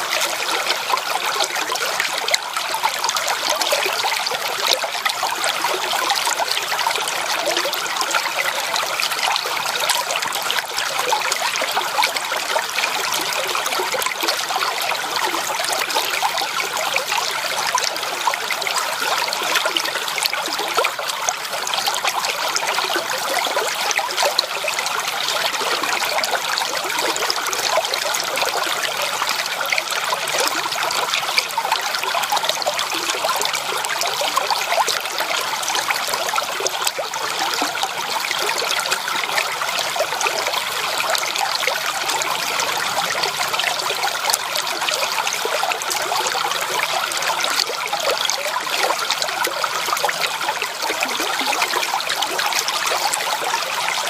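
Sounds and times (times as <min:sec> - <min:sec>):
creek water babbling over stones: 0:00.0 - 0:54.0.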